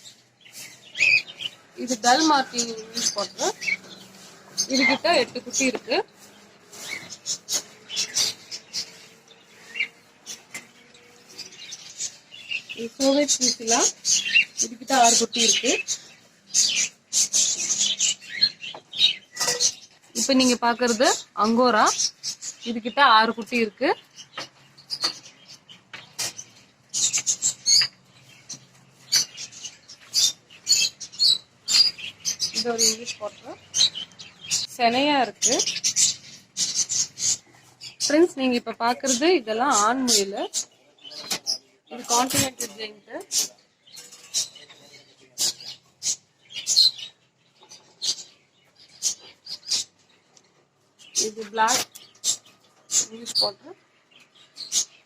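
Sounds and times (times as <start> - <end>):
caged birds chirping: 0.0 - 55.0.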